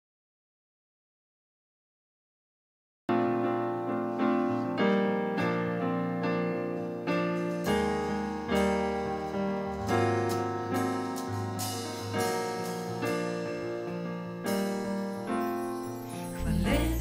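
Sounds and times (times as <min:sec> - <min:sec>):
piano playing slow chords: 0:03.1 - 0:17.0.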